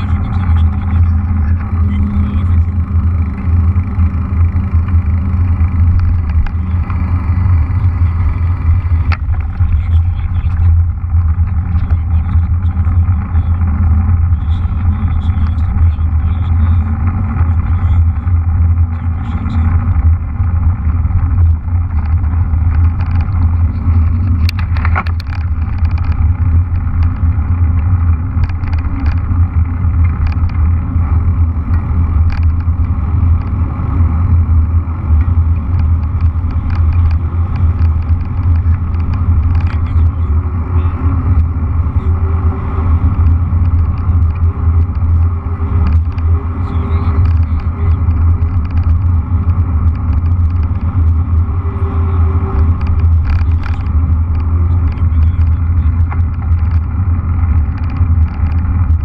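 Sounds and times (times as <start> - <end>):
bicycle tyre noise on road: 0.0 - 59.0
wind buffeting microphone: 0.0 - 59.0.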